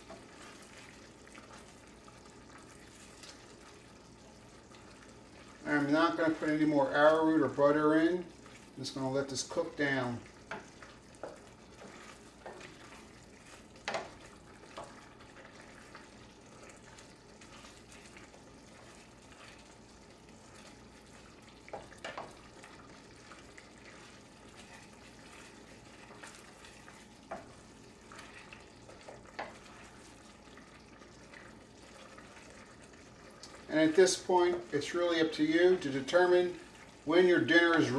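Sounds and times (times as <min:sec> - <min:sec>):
stew bubbling faintly: 0:00.0 - 0:37.9
wooden spoon stirring: 0:00.0 - 0:37.9.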